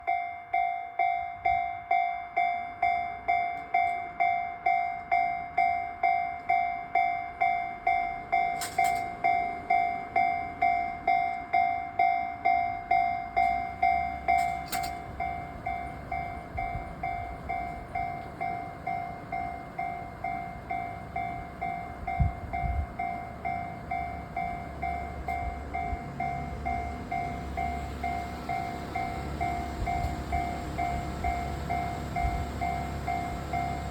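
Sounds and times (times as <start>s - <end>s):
level-crossing bell clanging: 0.0s - 33.9s
low train rumble: 0.0s - 33.9s.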